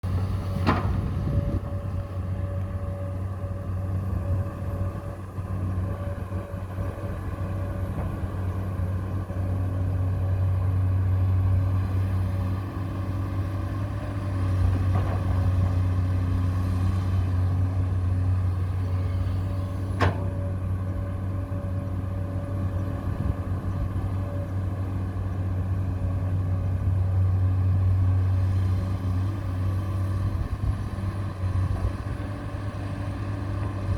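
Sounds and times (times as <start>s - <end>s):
vehicle engine droning: 0.0s - 33.9s.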